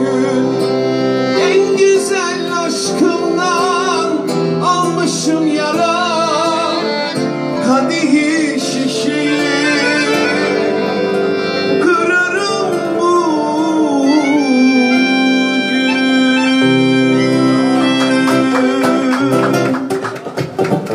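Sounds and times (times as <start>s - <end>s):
accordion melody: 0.0s - 20.9s
acoustic guitar: 0.0s - 20.9s.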